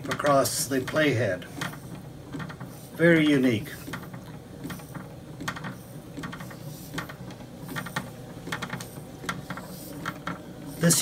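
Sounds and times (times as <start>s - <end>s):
mechanical clicking and ticking: 0.0s - 11.0s
steady low hum: 0.0s - 11.0s.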